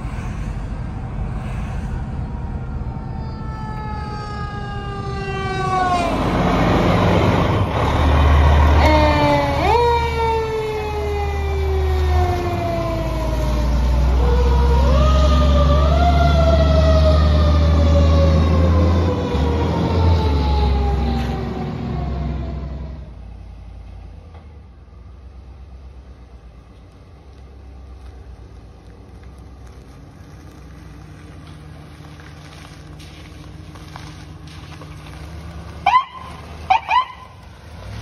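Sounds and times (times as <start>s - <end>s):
truck low rumble: 0.0s - 38.0s.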